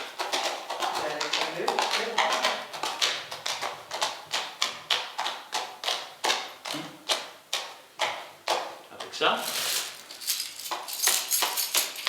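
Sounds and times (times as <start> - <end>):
hard objects knocking in clip-clop: 0.0 - 12.0.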